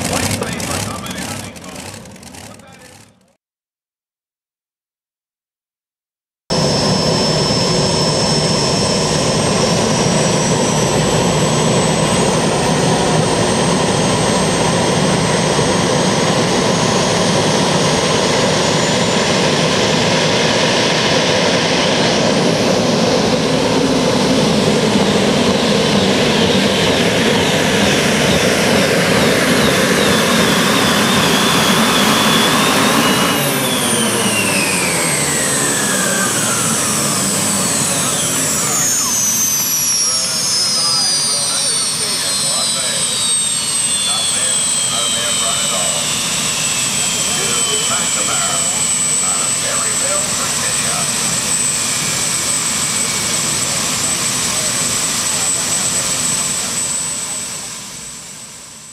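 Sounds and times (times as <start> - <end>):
gas turbine engines whining: 0.0 - 3.3, 6.5 - 58.9.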